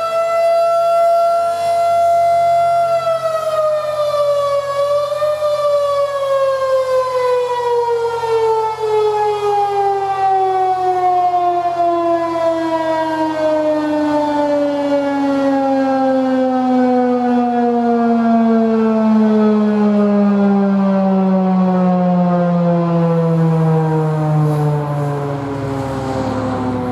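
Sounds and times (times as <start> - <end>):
warning siren winding down: 0.0 - 26.9.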